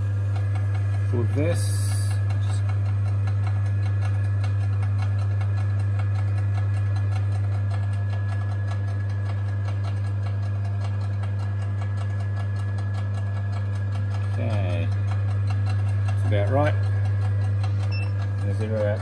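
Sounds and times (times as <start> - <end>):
lathe motor humming: 0.0 - 19.0.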